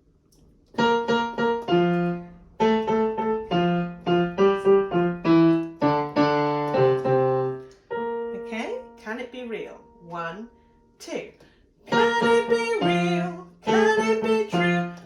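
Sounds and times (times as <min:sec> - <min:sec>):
piano melody: 0:00.7 - 0:10.2, 0:11.9 - 0:15.0.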